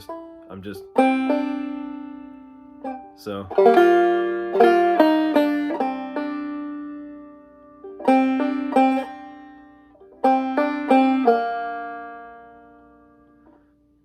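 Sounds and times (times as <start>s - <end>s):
banjo notes: 0.0s - 14.0s.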